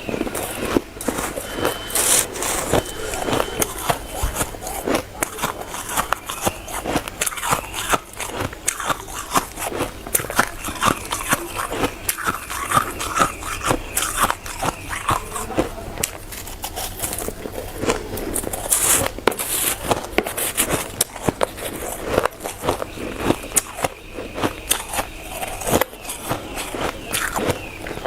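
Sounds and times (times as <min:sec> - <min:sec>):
shaved ice crunching while chewed: 0:00.0 - 0:28.0.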